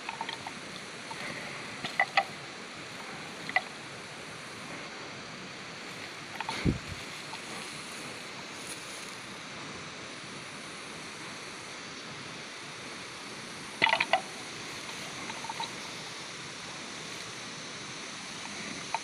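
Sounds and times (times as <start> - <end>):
outdoor hiss: 0.0 - 19.0.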